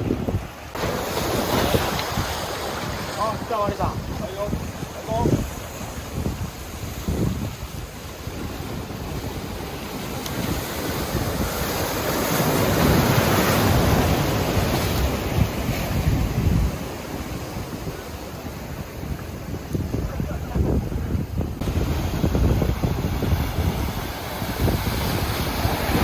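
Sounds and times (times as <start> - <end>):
waves crashing on beach: 0.0 - 26.0
wind buffeting microphone: 0.0 - 26.0.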